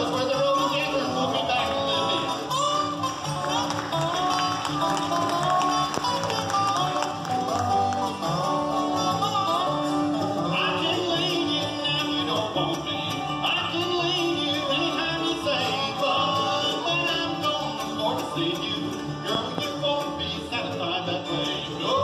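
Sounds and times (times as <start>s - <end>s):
person singing: 0.0s - 4.3s, 6.8s - 22.0s
bluegrass band playing: 0.0s - 22.0s.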